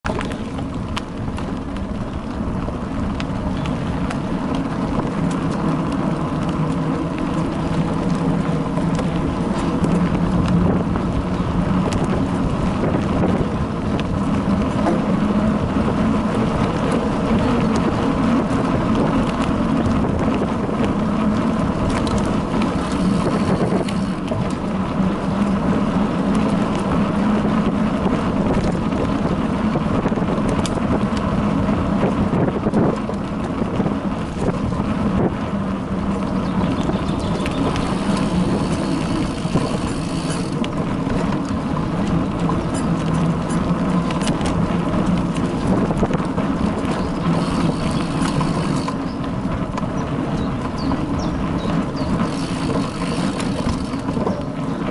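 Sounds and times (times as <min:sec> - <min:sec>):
bicycle tyres rumbling on dirt: 0:00.0 - 0:54.9
bike clicks and rattles: 0:00.0 - 0:54.9
wind: 0:00.0 - 0:54.9.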